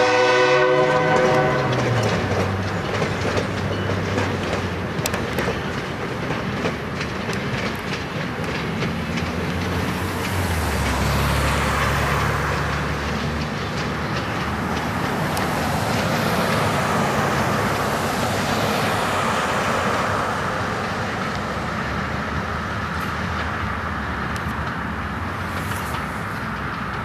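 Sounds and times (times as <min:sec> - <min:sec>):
steel wheels rolling on rails: 0:00.0 - 0:27.0
wheels clicking over rail joints: 0:00.0 - 0:27.0.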